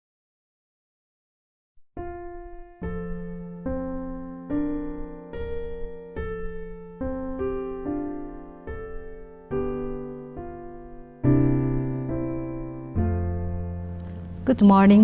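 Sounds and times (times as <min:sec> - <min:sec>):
piano chords: 0:02.0 - 0:15.0.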